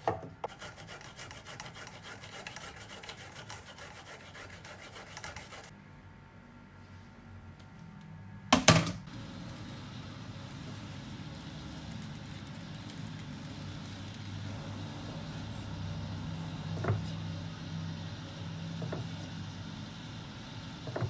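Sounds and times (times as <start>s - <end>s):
steady low hum: 0.2s - 21.0s.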